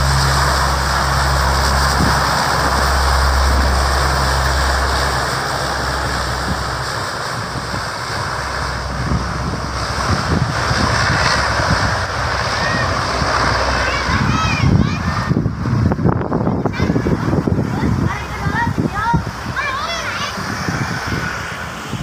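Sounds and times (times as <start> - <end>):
turboprop engines droning: 0.0 - 22.0
wind rumbling on microphone: 0.0 - 22.0.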